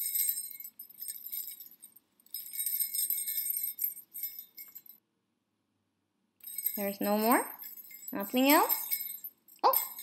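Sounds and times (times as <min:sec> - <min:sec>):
small bells shaking: 0:00.0 - 0:05.0, 0:06.4 - 0:10.0.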